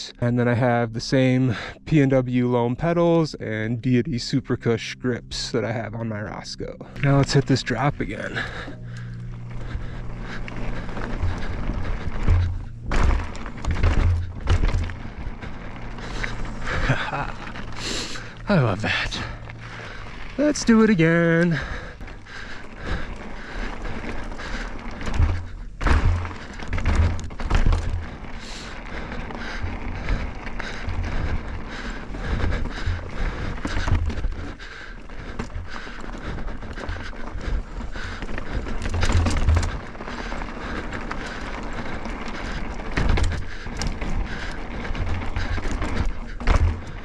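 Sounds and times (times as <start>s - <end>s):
bike tyres rolling on rock: 0.0s - 47.0s
bike thudding on drops: 6.8s - 47.0s
bike clicks and knocks: 7.0s - 47.0s.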